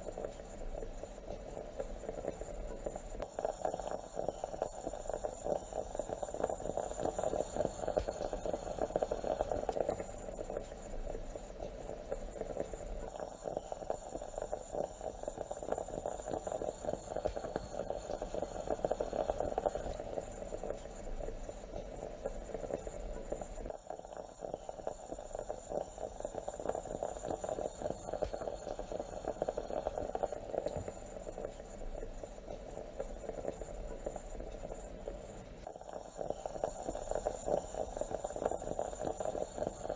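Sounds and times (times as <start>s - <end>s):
moka pot gurgling: 0.0s - 39.9s.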